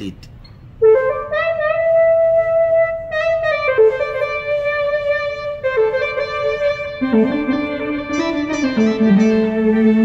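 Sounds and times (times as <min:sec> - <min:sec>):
synthesizer lead melody: 0:00.8 - 0:10.0.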